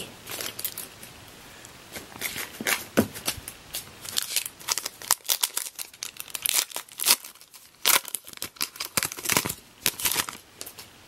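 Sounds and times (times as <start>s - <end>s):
wrapper tearing and crinkling: 0.3s - 0.9s, 2.2s - 10.9s.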